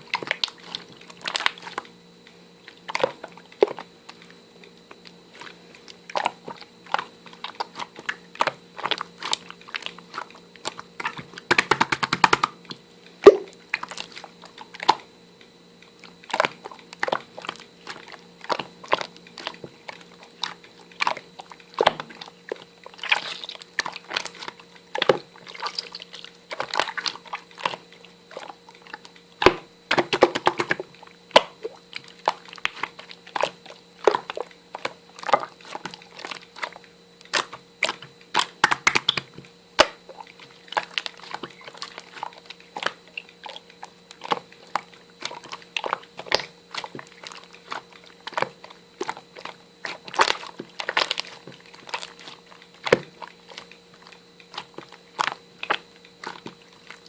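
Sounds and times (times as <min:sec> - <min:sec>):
crunchy chewing: 0:00.0 - 0:57.0
faint steady hum: 0:00.0 - 0:57.0.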